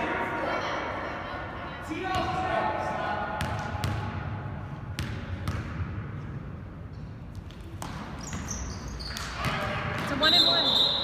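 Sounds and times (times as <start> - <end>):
low hum of gymnasium: 0.0 - 11.0.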